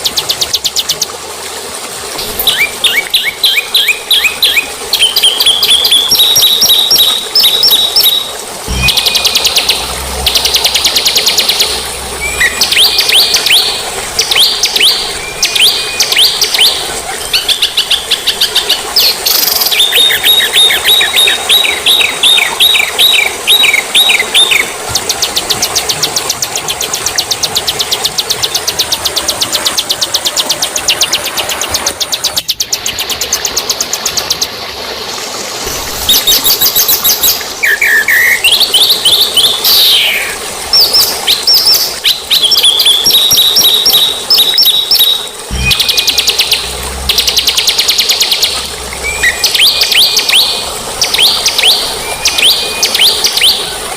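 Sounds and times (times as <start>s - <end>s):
songbirds singing: 2.2s - 34.4s, 35.7s - 53.9s.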